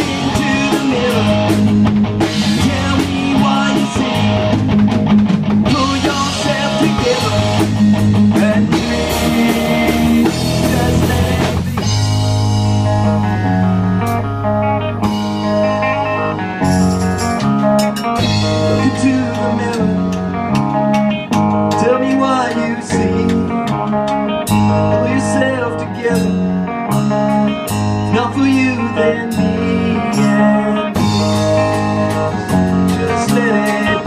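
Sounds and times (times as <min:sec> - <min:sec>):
bass guitar: 0:00.0 - 0:34.0
drum kit with cymbals: 0:00.0 - 0:34.0
electric guitars: 0:00.0 - 0:34.0
lead guitar bending pitch: 0:00.0 - 0:34.0.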